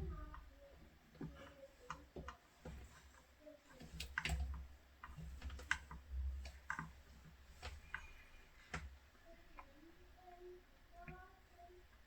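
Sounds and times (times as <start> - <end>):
small clicks and taps of tools: 0.0 - 10.4.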